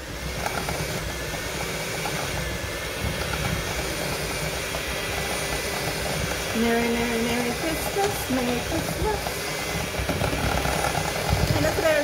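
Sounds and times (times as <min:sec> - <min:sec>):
electric mixer running: 0:00.0 - 0:12.0.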